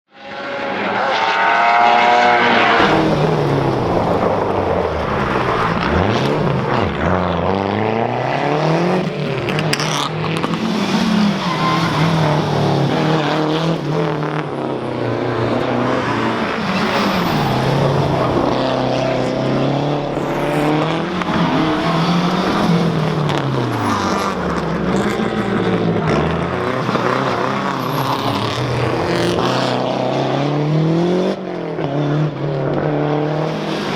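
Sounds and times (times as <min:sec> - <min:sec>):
rally car engine revving: 0:00.2 - 0:33.9.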